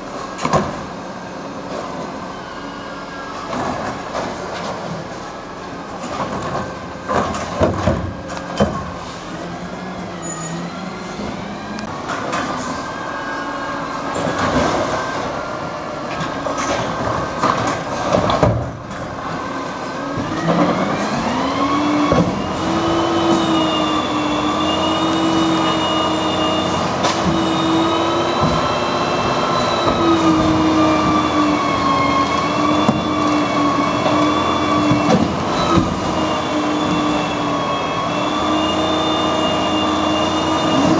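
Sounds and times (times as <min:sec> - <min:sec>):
engine and hydraulics whine: 0:00.0 - 0:40.9.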